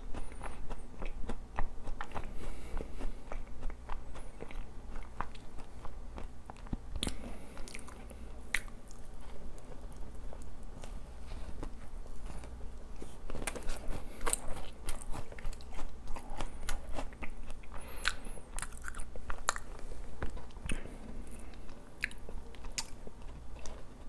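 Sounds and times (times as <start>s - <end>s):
biting and chewing doughnut: 0.0s - 24.0s.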